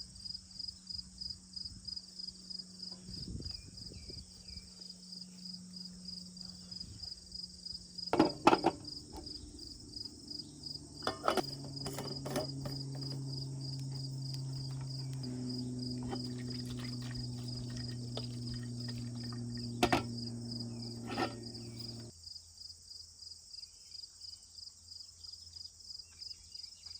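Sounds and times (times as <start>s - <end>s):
low steady hum: 0.0s - 22.1s
crickets chirping: 0.0s - 26.8s.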